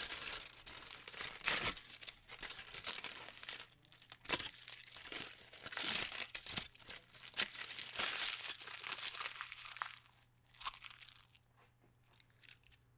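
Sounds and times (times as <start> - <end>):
aluminium foil crumpling: 0.0 - 11.4.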